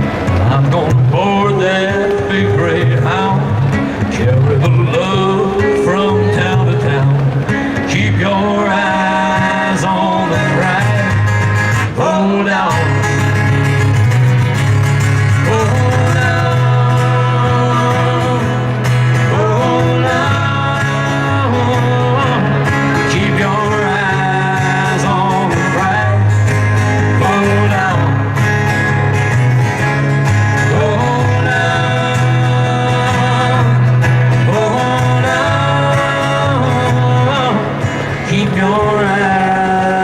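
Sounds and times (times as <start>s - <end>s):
country music with guitar: 0.0s - 40.0s.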